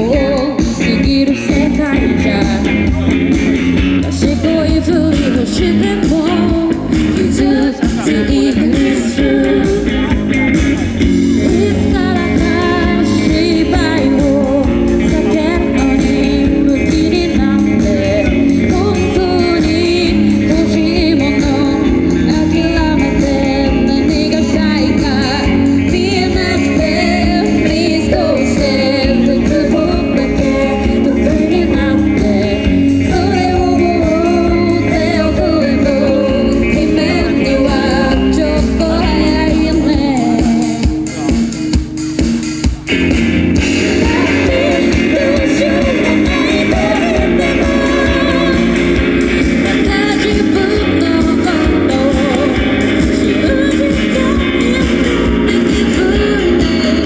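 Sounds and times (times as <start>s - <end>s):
woman singing: 0.0s - 3.1s, 4.0s - 10.2s, 11.3s - 41.0s, 43.6s - 57.0s
rock band playing: 0.0s - 57.0s.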